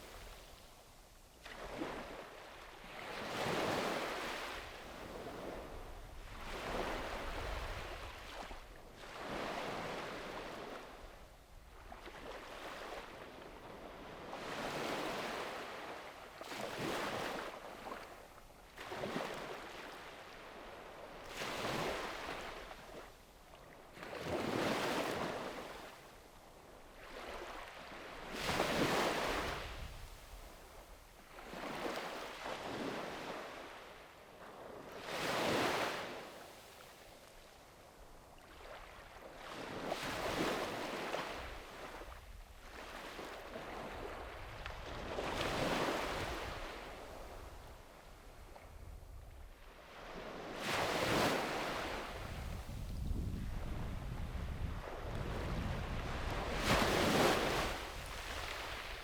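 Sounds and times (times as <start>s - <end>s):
sea waves breaking on beach: 1.4s - 11.0s, 11.8s - 23.1s, 23.9s - 26.0s, 27.0s - 30.4s, 31.4s - 34.1s, 34.7s - 37.0s, 38.4s - 48.4s, 49.6s - 53.6s, 54.8s - 59.0s.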